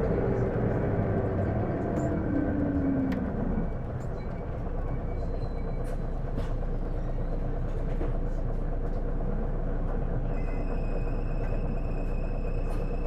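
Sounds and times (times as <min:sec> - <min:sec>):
bus engine rumble inside cabin: 0:00.0 - 0:13.0.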